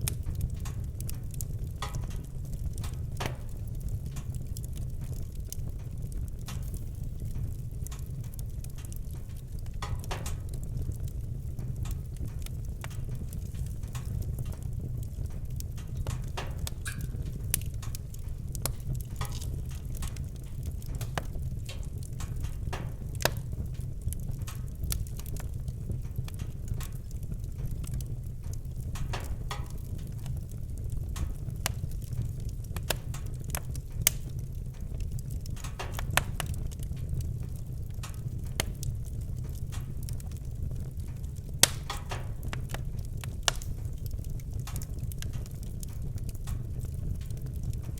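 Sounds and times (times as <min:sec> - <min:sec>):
fire crackling: 0:00.0 - 0:47.9
fire popping: 0:00.0 - 0:47.9.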